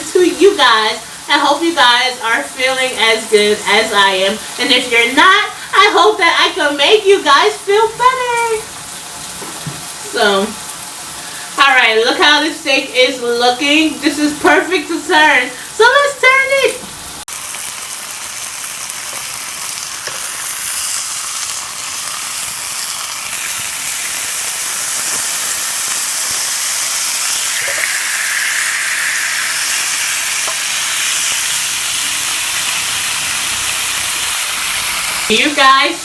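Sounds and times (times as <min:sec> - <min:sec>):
steak sizzling in a pan: 0:00.0 - 0:36.0.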